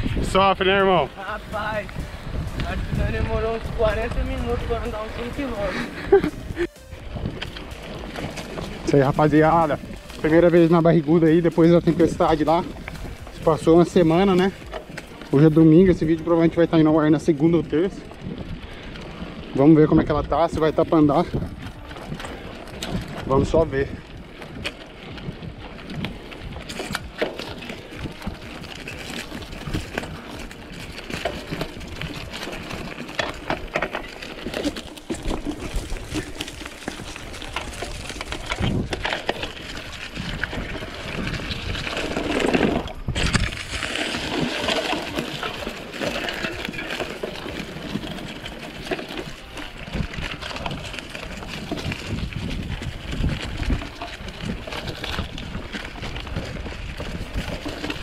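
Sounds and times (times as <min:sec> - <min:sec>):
bike clicks and rattles: 0:00.0 - 0:58.0
bike tyres rolling over soil: 0:00.0 - 0:58.0.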